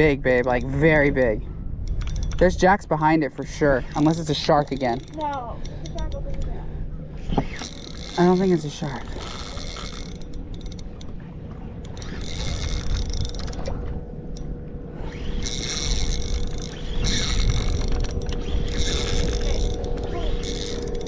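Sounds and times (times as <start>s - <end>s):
fishing reel clicking and whirring: 0.0s - 6.5s, 7.2s - 11.2s, 11.8s - 21.0s.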